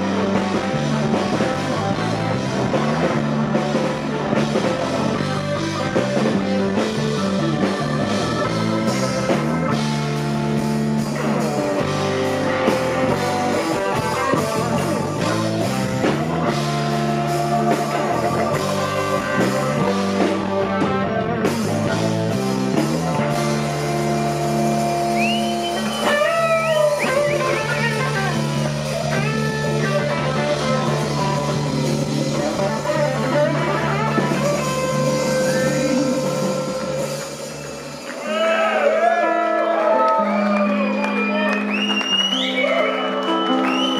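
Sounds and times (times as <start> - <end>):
bass guitar: 0.0 - 43.9
drums: 0.0 - 43.9
electric guitar lead: 0.0 - 43.9.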